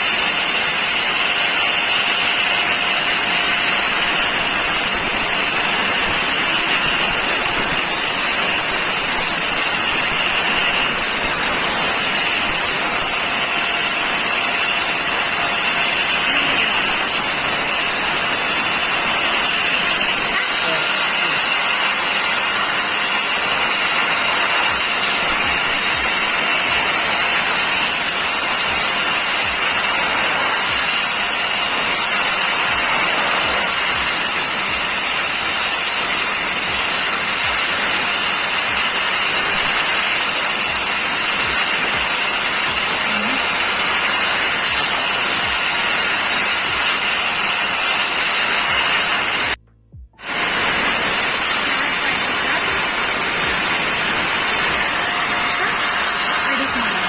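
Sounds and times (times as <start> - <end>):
angle grinder grinding steel: 0.0 - 49.6, 50.2 - 57.0.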